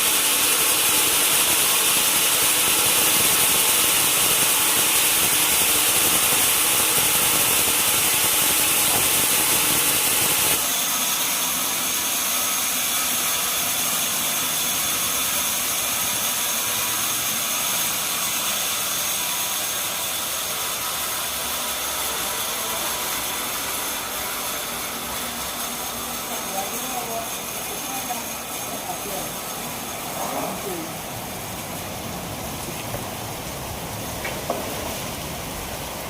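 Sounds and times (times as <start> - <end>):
loud hiss: 0.0 - 17.5, 19.0 - 36.0
sawmill machinery hum: 0.0 - 36.0.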